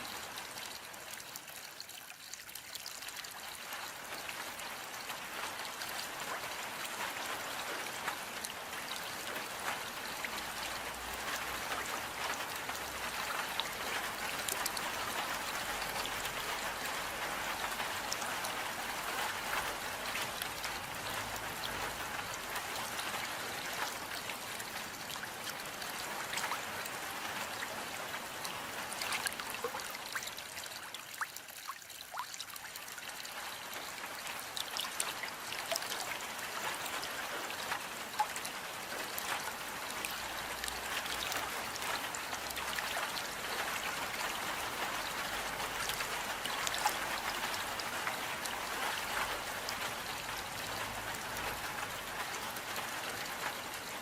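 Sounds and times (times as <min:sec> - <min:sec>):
rain drops ticking: 0:00.0 - 0:54.0
trickling water: 0:00.0 - 0:54.0.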